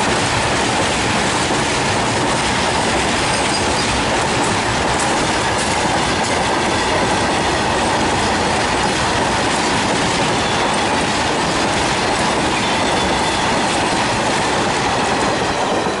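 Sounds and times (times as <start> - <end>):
freight train rumbling past: 0.0 - 16.0
wheel clatter over rails: 0.0 - 16.0.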